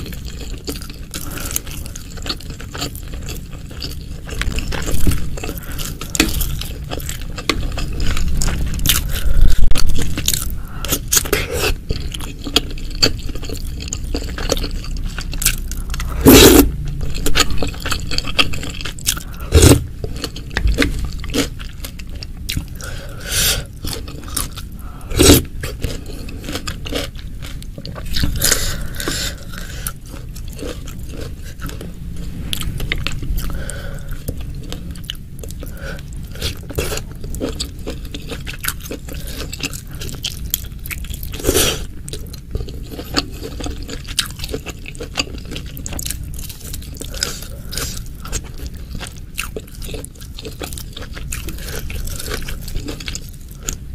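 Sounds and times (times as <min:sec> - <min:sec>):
close-up chewing and biting: 0:00.0 - 0:53.9.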